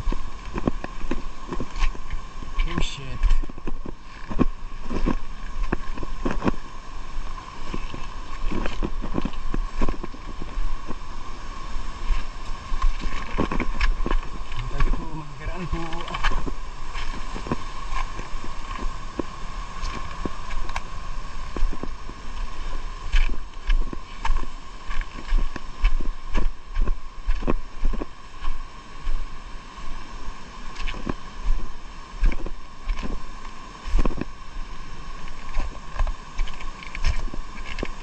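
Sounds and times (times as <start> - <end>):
water knocks and splashes: 0.0 - 6.7, 7.6 - 11.0, 12.0 - 29.2, 30.7 - 34.4, 35.2 - 38.0
small boat engine hum: 0.0 - 38.0.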